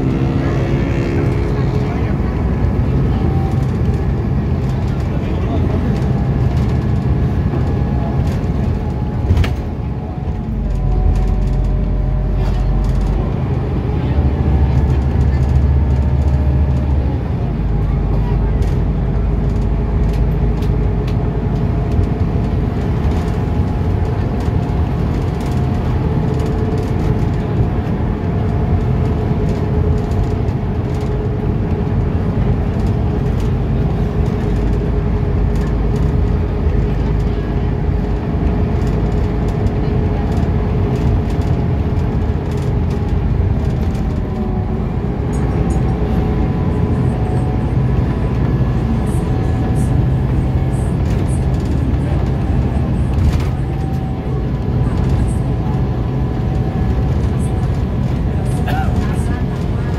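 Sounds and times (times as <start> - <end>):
bus engine and road drone: 0.0 - 59.9.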